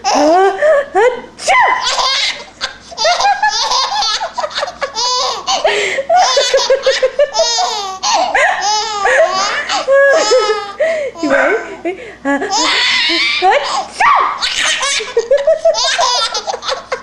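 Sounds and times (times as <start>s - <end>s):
baby laughing: 0.0s - 11.8s, 12.4s - 17.0s.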